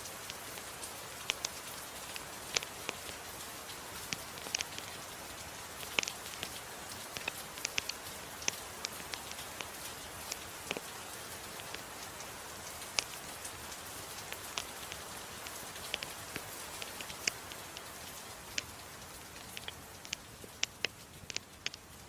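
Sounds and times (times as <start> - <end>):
soft rain hiss: 0.0 - 22.0
wood fire crackling: 0.0 - 22.0.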